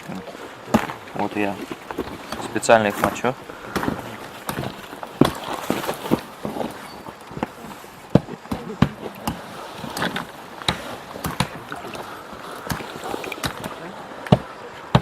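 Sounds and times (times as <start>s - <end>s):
water splashing and dribbling: 0.0s - 15.0s.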